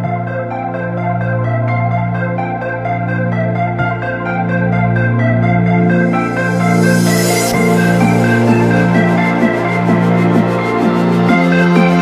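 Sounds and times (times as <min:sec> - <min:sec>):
electronic music with synthesizer: 0:00.0 - 0:12.0.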